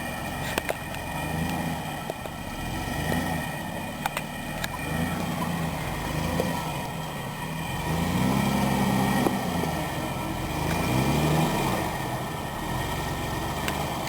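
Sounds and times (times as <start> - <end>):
pickup truck engine pulling: 0.0 - 14.0.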